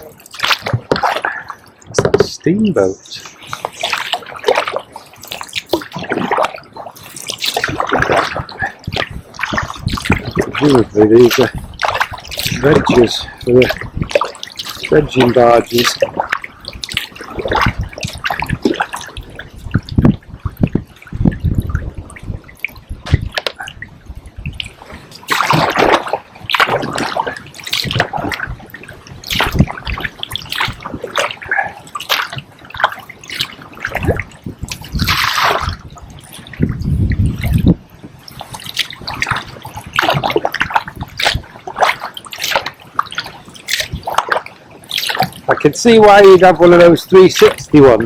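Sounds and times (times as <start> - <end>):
kayak paddle strokes in water: 0.0 - 48.0
water splashing and dripping: 0.0 - 48.0.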